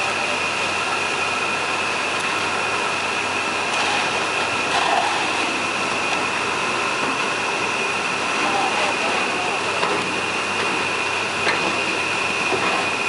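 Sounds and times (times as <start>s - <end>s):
machine running with high whine: 0.0s - 13.0s.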